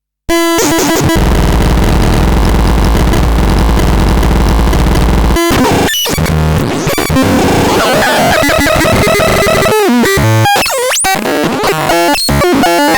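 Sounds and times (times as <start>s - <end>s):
harsh synthesizer noise: 0.3s - 12.9s.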